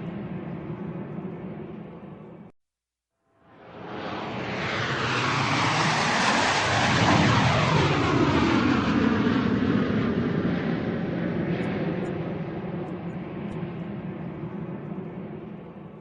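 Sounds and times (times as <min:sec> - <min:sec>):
airplane flying overhead: 0:00.0 - 0:02.5, 0:03.4 - 0:16.0.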